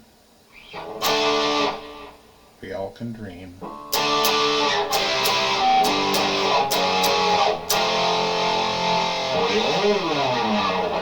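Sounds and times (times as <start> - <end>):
electric guitar strumming chords: 0.7 - 2.4, 3.6 - 11.0.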